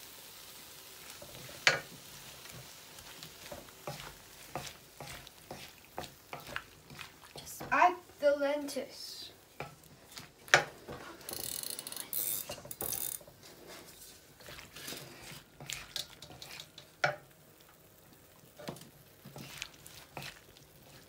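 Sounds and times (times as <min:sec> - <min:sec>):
spoon scraping tomatoes in a wok: 0:01.1 - 0:08.7, 0:09.4 - 0:21.0.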